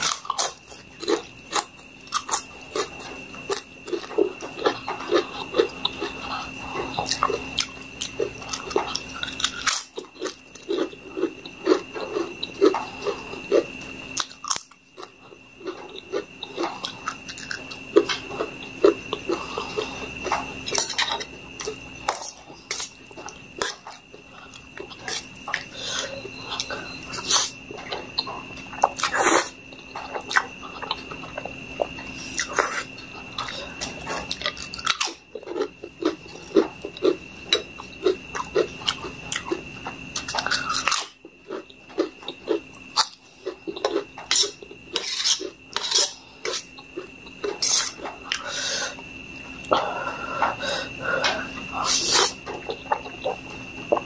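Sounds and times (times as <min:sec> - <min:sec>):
close chewing with mouth clicks: 0:00.0 - 0:48.4, 0:50.4 - 0:54.0.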